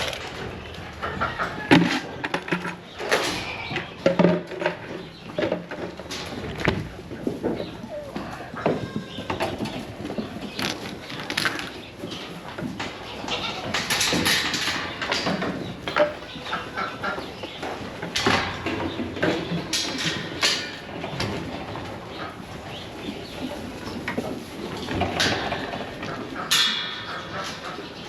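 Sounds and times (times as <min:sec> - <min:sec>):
animals scuffling and knocking: 0:00.0 - 0:28.0.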